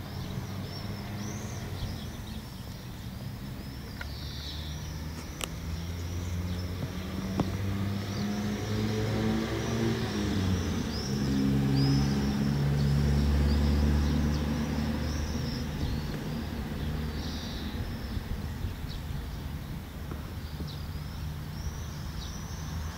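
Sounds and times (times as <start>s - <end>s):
low engine hum: 0.0s - 22.9s
small birds chirping: 0.0s - 22.9s.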